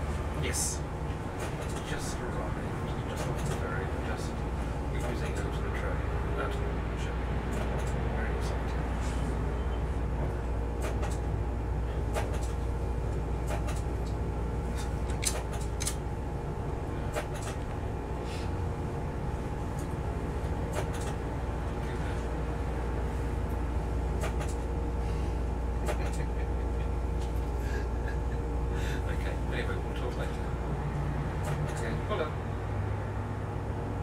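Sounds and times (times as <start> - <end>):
diesel train rumble: 0.0 - 34.0.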